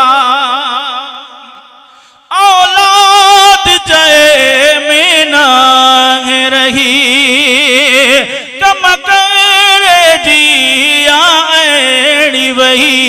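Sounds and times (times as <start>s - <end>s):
man singing through a microphone: 0.0s - 1.7s, 2.3s - 13.0s.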